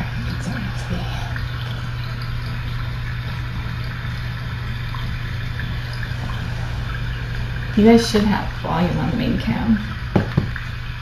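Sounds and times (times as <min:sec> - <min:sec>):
low hum: 0:00.0 - 0:11.0
steady rain hiss: 0:00.0 - 0:11.0.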